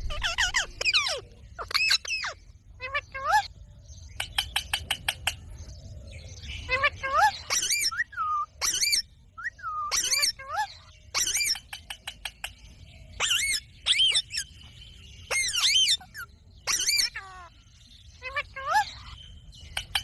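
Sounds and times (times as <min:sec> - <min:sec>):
parakeet squawking and chattering: 0:00.0 - 0:05.6, 0:06.4 - 0:20.0.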